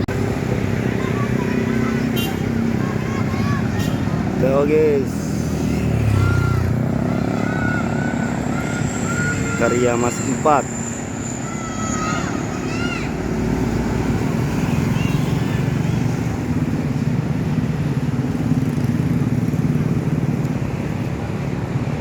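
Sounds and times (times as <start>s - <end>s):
bus engine rumbling: 0.0s - 22.0s.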